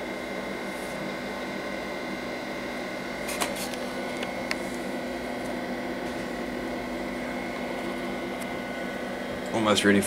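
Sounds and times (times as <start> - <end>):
computer fan and drive whirring: 0.0 - 10.0.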